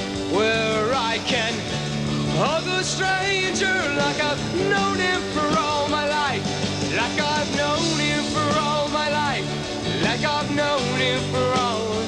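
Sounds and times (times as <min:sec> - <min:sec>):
rock music with sliding melody: 0:00.0 - 0:12.0.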